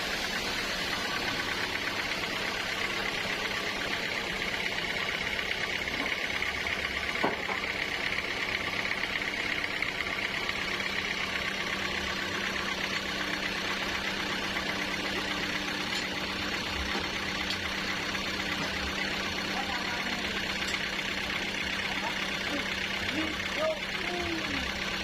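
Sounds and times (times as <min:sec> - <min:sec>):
sawmill machinery humming: 0:00.0 - 0:25.0.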